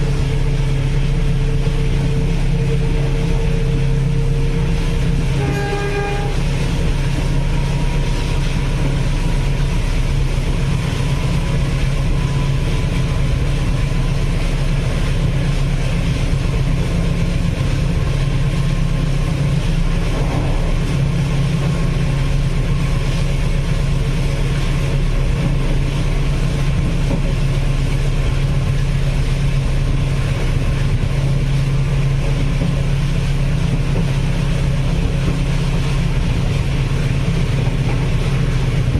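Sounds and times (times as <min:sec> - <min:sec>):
passenger train running: 0:00.0 - 0:38.9.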